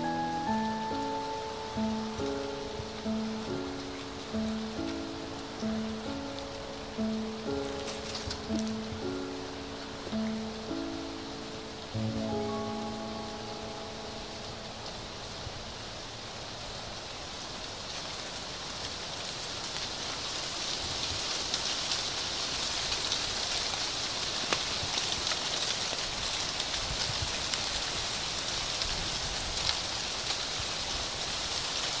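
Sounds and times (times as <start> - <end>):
dry leaves rustling in wind: 0.0 - 32.0
leaves pattering onto path: 0.0 - 32.0.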